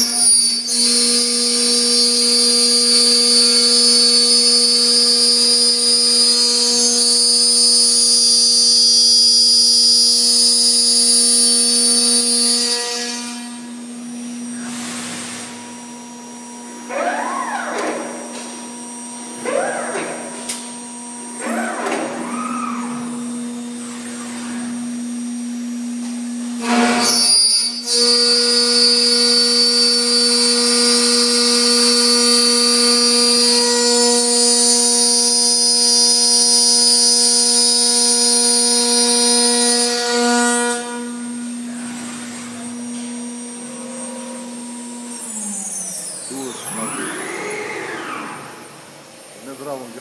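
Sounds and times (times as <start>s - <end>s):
machine spindle whining: 0.0s - 50.0s
motors whining up and down: 0.0s - 50.0s.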